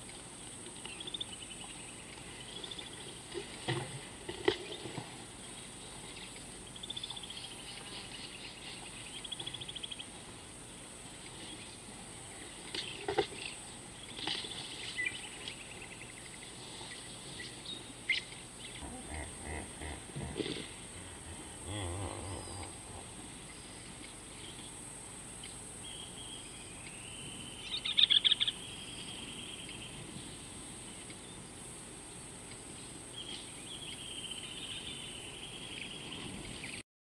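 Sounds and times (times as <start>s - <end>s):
high insect hiss: 0.0s - 36.8s.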